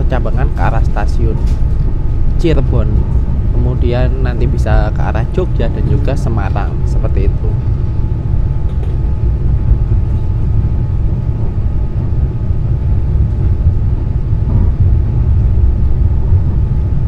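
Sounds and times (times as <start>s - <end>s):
faint steady hum: 0.0s - 17.0s
train rumbling: 0.0s - 17.0s.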